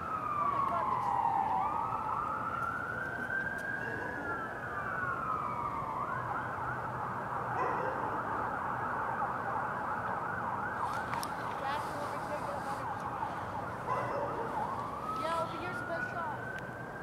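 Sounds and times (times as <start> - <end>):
police siren wailing and yelping: 0.0 - 17.0.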